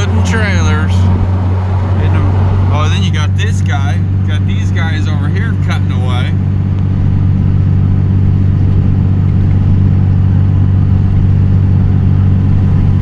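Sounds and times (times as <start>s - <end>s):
vehicle engine and road hum: 0.0s - 13.0s.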